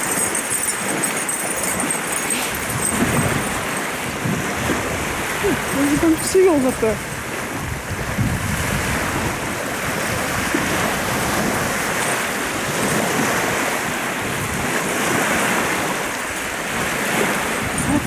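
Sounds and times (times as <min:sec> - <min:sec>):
waves washing onto shore: 0:00.0 - 0:18.0
wind buffeting microphone: 0:00.0 - 0:18.0.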